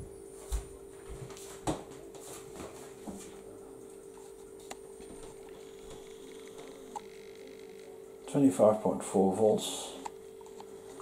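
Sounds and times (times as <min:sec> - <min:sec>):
electrical hum from lamp inverter: 0:00.0 - 0:11.0
faint high whine: 0:00.0 - 0:11.0.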